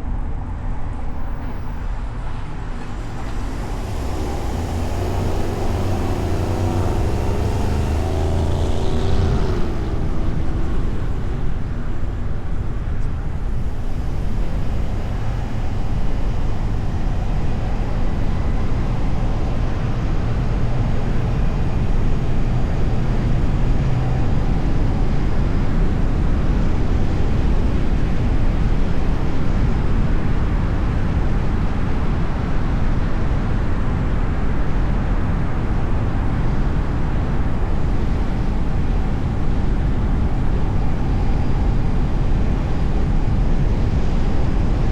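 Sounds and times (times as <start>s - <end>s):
car road noise rumbling: 0.0s - 44.9s.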